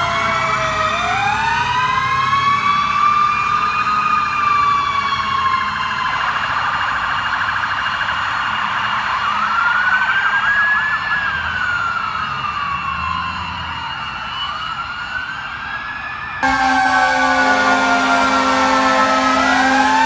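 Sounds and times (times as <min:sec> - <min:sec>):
emergency vehicle sirens: 0:00.0 - 0:20.0.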